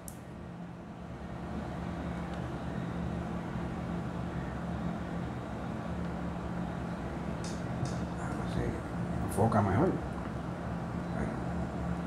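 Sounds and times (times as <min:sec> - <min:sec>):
constant rumbling background: 0:00.0 - 0:12.0
steady low hum: 0:00.0 - 0:12.0.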